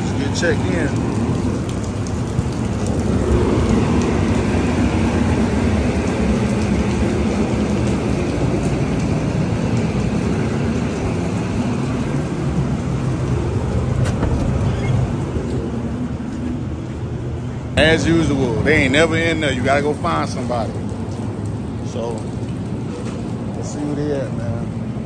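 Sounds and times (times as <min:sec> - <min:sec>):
industrial machinery rumble: 0:00.0 - 0:25.0.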